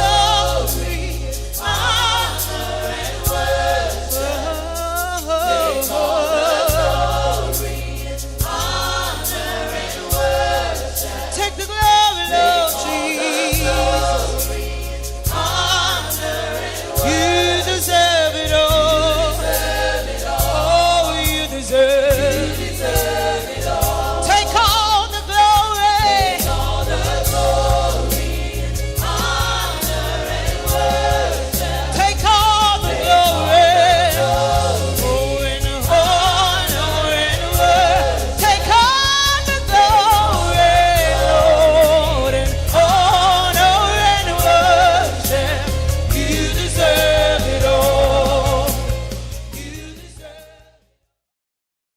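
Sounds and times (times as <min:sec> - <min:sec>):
band bass and beat: 0:00.0 - 0:50.6
choir singing gospel music: 0:00.0 - 0:51.0.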